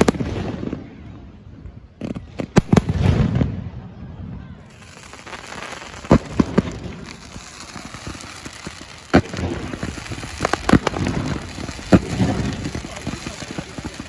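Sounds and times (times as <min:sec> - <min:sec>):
fireworks fizzing crackle: 0:00.0 - 0:03.8, 0:04.6 - 0:14.0
fireworks bangs: 0:00.0 - 0:14.0.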